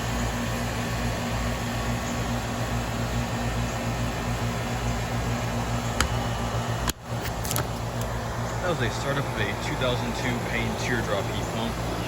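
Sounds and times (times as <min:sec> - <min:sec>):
compressor humming: 0:00.0 - 0:12.0
fan air rushing: 0:00.0 - 0:12.0.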